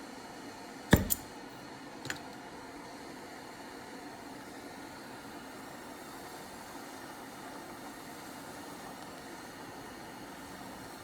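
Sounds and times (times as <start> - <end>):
steady hum and hiss: 0.0 - 11.0.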